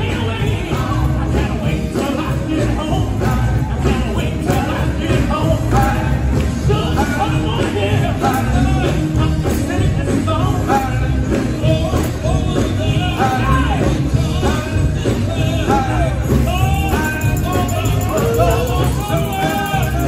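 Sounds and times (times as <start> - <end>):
gospel quartet singing: 0.0 - 20.0
steady bass beat: 0.0 - 20.0.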